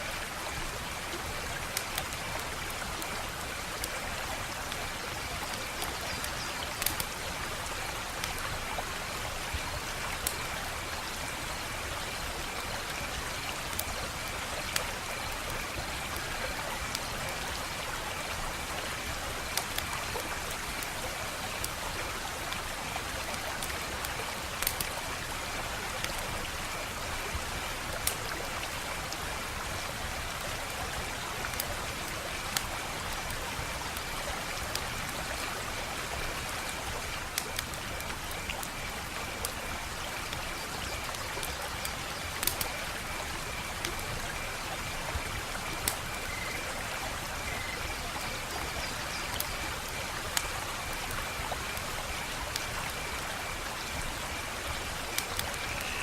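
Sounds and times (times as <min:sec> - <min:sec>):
wood fire crackling: 0:00.3 - 0:06.0, 0:06.6 - 0:12.6, 0:13.4 - 0:44.0, 0:44.6 - 0:46.3, 0:53.9 - 0:55.6.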